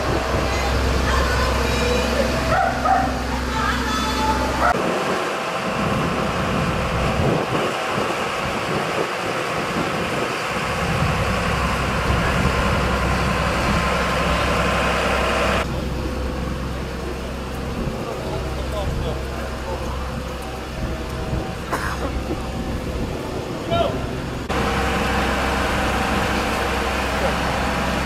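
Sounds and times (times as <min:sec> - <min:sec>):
diesel truck engine running: 0:00.0 - 0:28.0
steady low hum: 0:00.0 - 0:28.0
street noise: 0:00.0 - 0:28.0.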